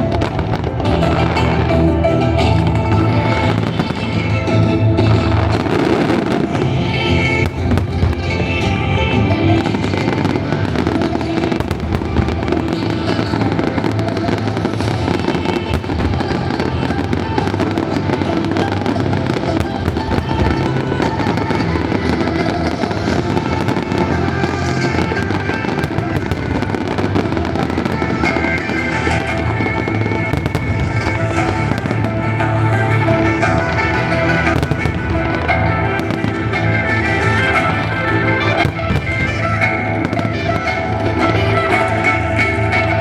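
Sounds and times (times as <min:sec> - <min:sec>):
fireworks crackling and banging: 0:00.0 - 0:43.0
music: 0:00.0 - 0:43.0.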